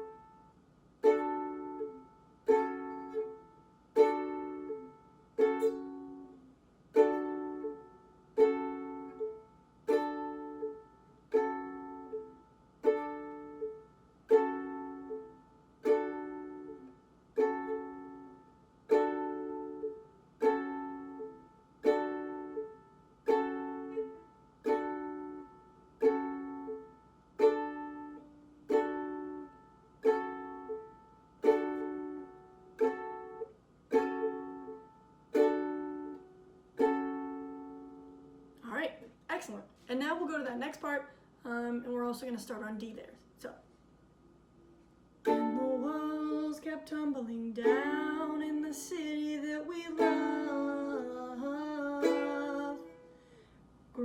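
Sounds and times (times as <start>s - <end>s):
ukulele chords strummed: 0.0s - 38.6s, 45.2s - 53.3s.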